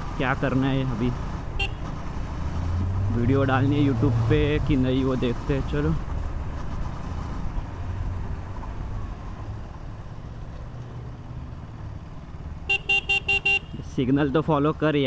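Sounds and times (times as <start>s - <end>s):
motorcycle engine rumble: 0.0s - 14.9s.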